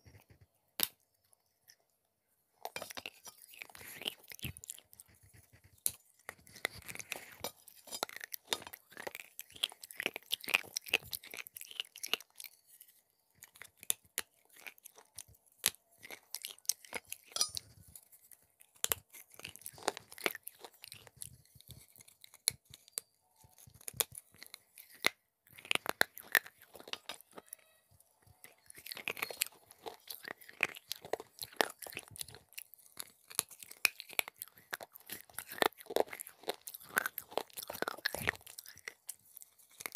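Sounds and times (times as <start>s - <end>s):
crisp crunching and chewing: 2.6s - 39.9s.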